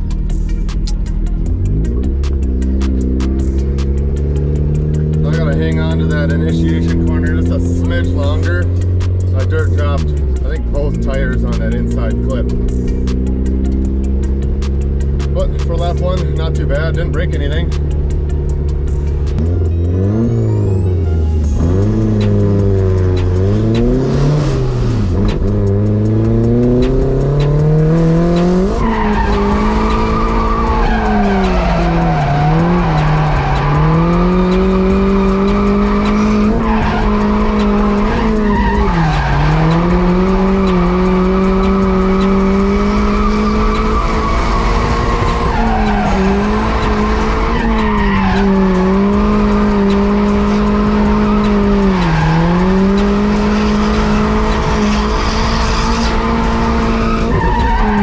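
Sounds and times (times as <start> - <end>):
car engine revving: 0.0 - 58.0
tires squealing: 0.0 - 58.0.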